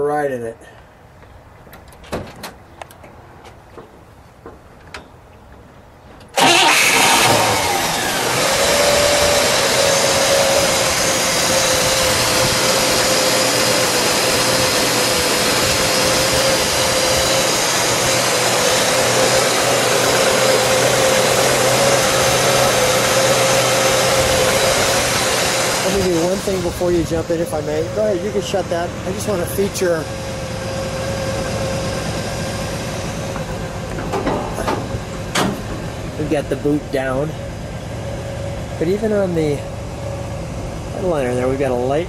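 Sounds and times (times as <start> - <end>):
car engine starting and idling: 6.2 - 42.0
steady whine: 6.4 - 42.0.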